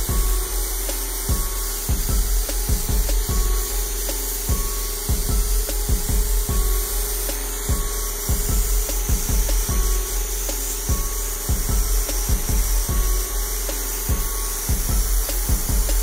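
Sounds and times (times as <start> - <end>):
spray gun hissing: 0.0 - 16.0.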